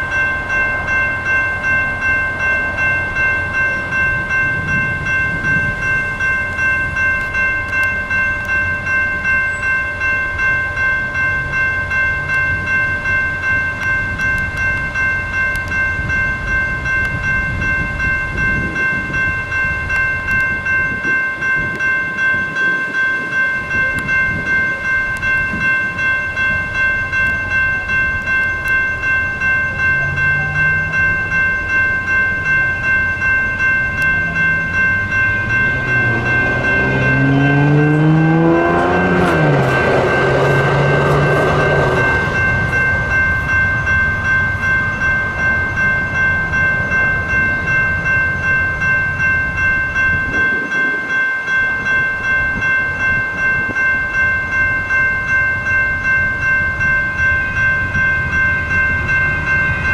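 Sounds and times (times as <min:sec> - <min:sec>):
crossing bells ringing: 0:00.0 - 0:59.9
train hum: 0:00.0 - 0:59.9
wheel-on-rail rumble: 0:00.0 - 0:59.9.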